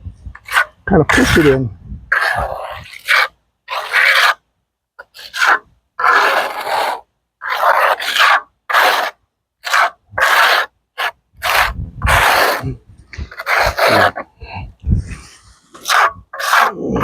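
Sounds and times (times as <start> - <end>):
trowel scraping asphalt patch: 0.3 - 17.0.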